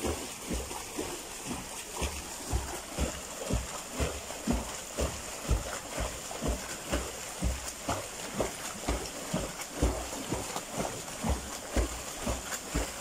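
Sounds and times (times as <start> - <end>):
legs kicking water splashes: 0.0 - 13.0.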